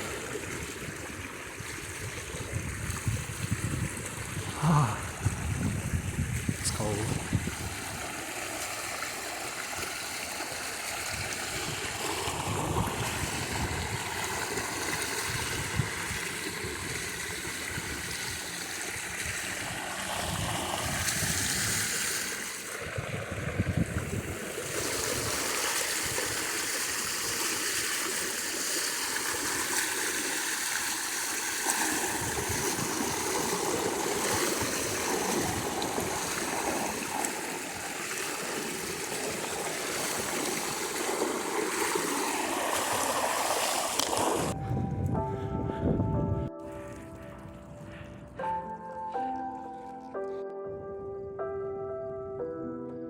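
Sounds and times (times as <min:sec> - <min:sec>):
floodwater swishing around bicycle: 0:00.0 - 0:45.5, 0:46.4 - 0:50.8.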